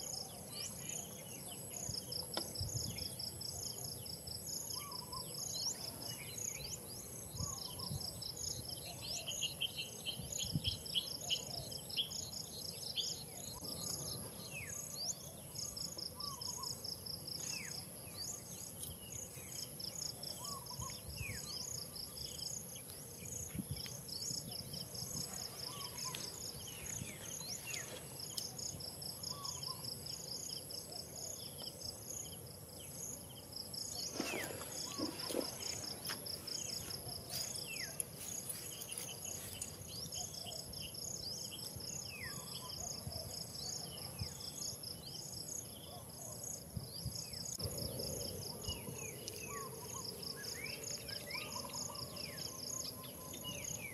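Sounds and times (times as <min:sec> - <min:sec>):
insects pulsing trill: 0:00.0 - 0:53.9.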